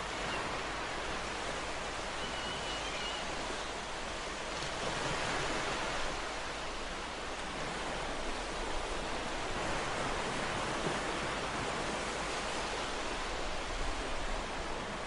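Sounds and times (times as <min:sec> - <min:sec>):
ocean waves: 0:00.0 - 0:15.0.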